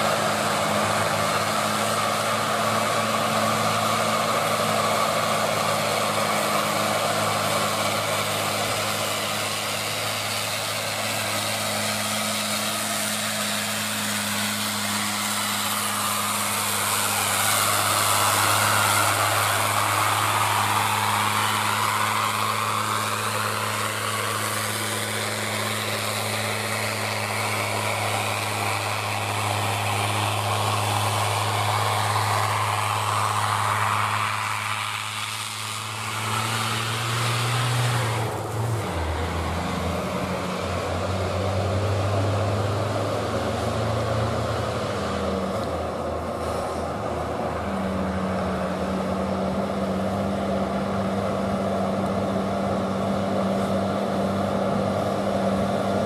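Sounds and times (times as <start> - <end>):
dump truck diesel engine: 0.0 - 56.0.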